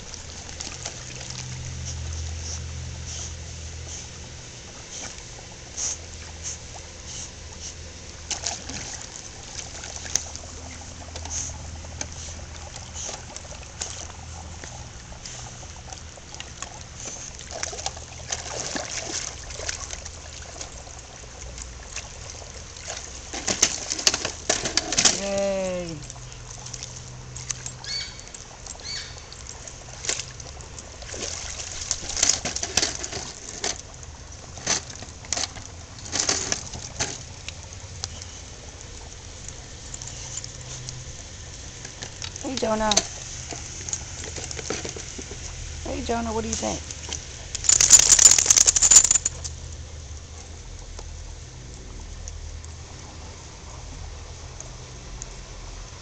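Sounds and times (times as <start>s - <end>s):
water splashing and sloshing: 0.0s - 56.0s.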